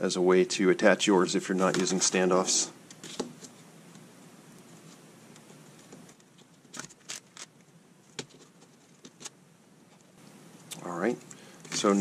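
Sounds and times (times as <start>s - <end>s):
faint hiss: 0.0s - 6.7s, 8.7s - 12.0s.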